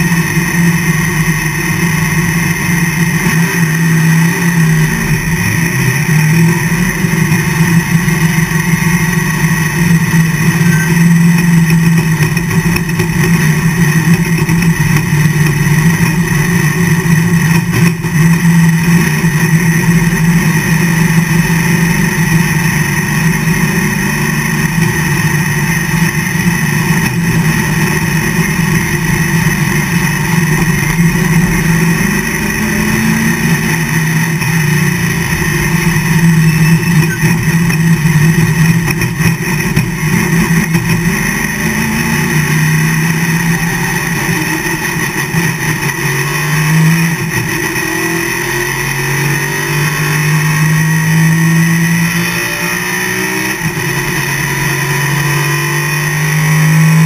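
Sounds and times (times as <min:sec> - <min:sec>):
race car engine drone: 0:00.0 - 0:57.0.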